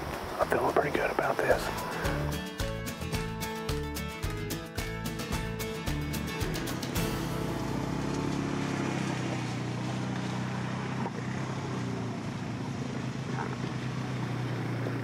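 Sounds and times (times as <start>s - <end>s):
atv engine humming: 0.0s - 15.0s.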